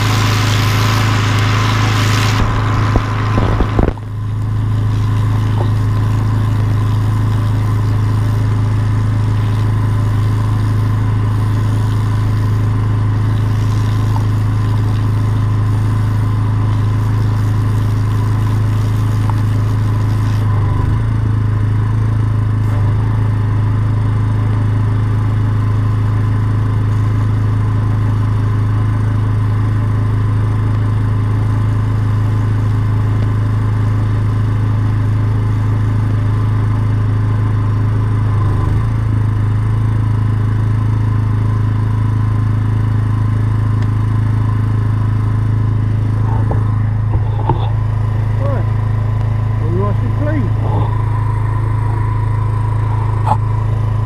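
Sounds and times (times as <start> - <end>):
machine engine running: 0.0 - 54.0.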